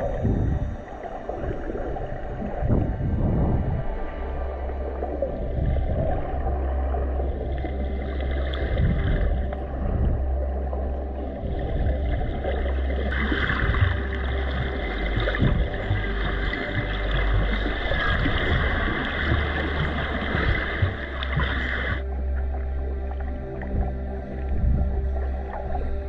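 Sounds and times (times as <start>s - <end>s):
muffled underwater rumble: 0.0s - 26.0s
water sloshing and gurgling: 0.0s - 26.0s.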